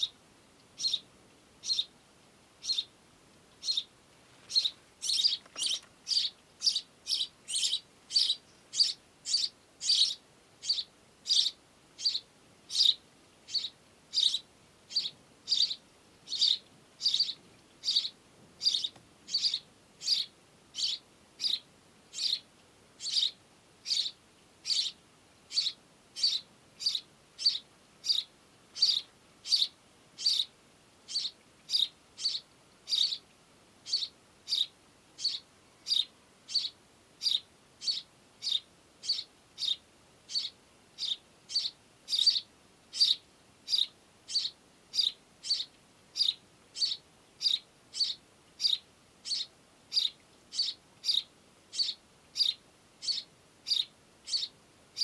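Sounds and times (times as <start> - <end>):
sparrow chirping: 0.8 - 1.9, 2.6 - 2.9, 3.6 - 30.5, 31.1 - 55.0.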